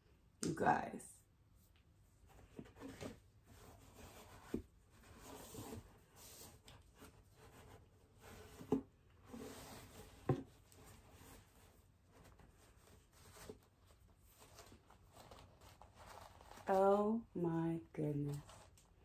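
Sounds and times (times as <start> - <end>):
paper rustling and crinkling: 2.6 - 17.0, 18.2 - 19.0.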